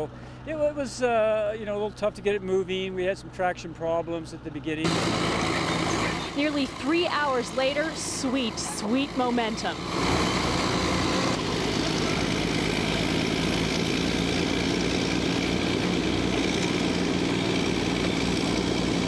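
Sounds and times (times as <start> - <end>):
bulldozer diesel engines: 0.0 - 19.0.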